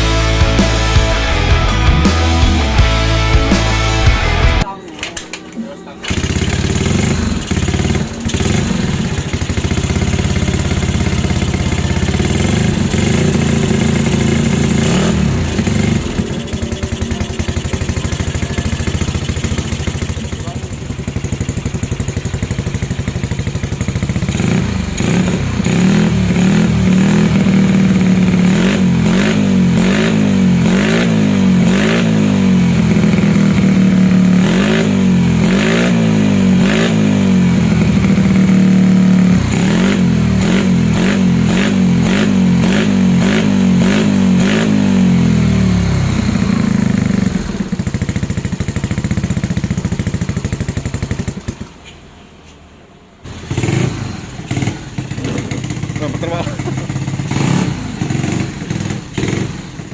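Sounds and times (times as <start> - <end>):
scooter engine revving: 6.0 - 52.5, 53.2 - 59.9.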